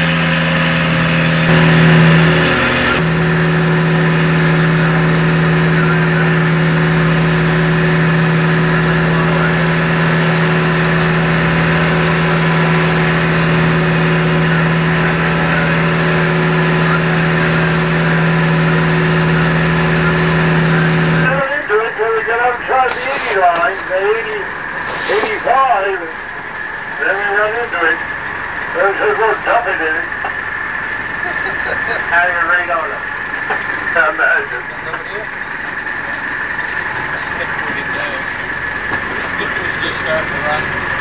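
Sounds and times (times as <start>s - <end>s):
boat engine drone: 0.0s - 41.0s.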